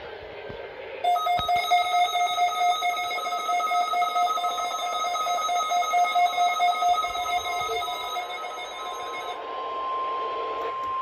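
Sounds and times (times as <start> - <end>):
steady electronic alarm tone: 1.1 - 10.2.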